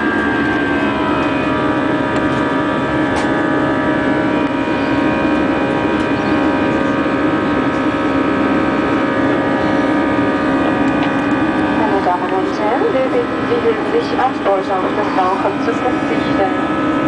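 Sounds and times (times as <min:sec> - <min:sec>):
jet engine and airflow rush: 0:00.0 - 0:17.0
steady whining tones: 0:00.0 - 0:17.0.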